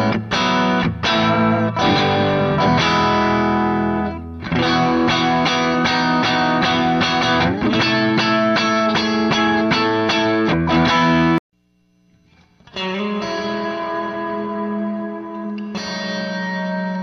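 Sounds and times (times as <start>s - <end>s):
distorted electric guitar strumming: 0.0s - 11.4s, 12.6s - 17.0s
guitar slide: 0.0s - 11.4s, 12.3s - 17.0s.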